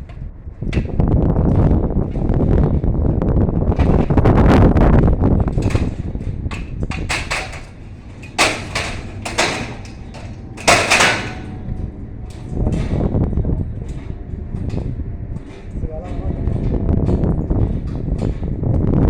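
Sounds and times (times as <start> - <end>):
low rumble: 0.0 - 19.0
sharp knocks and clanks: 0.0 - 19.0.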